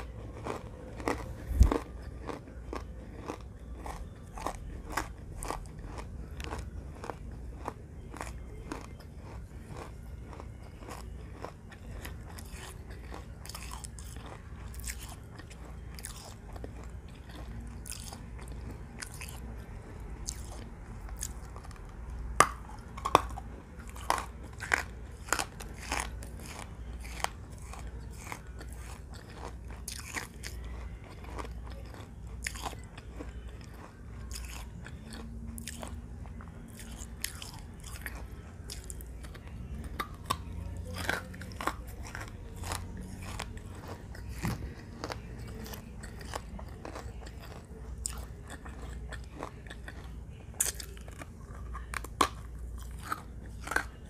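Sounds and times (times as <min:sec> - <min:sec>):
chewing hard crunchy pieces: 0:00.0 - 0:54.0.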